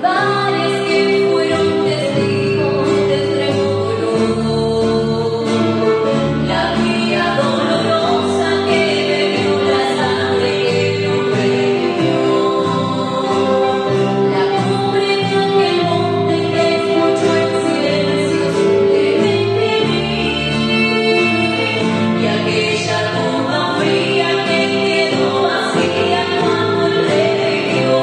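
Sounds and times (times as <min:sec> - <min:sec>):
acoustic guitar: 0:00.0 - 0:28.0
woman singing: 0:00.0 - 0:28.0.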